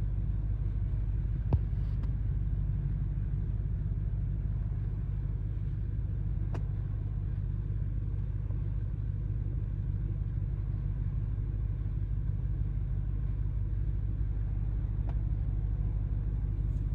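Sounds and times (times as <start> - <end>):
car engine low rumble: 0.0 - 16.9.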